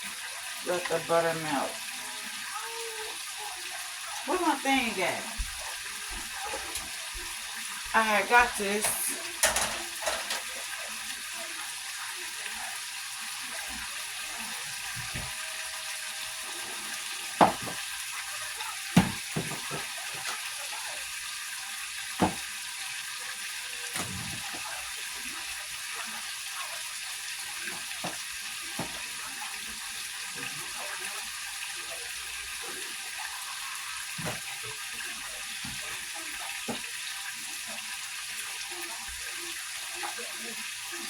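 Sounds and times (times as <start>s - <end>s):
butter sizzling in a pan: 0.0s - 41.0s.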